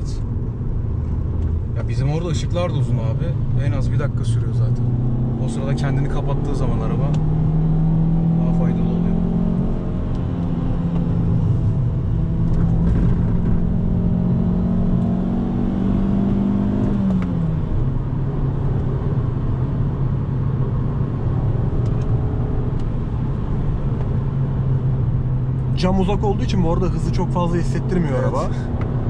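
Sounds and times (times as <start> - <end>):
car engine accelerating: 0.0 - 29.0
tyre and road noise: 0.0 - 29.0.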